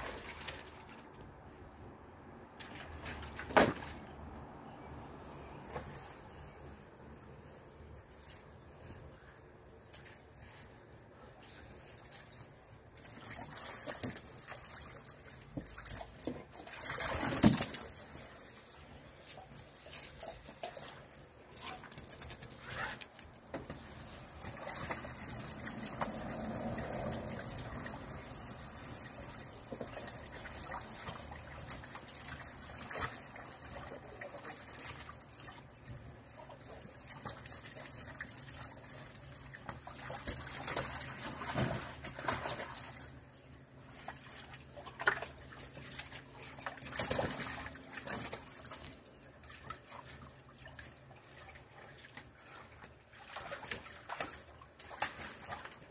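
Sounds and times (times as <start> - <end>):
water splashing and sloshing: 0.0 - 55.9.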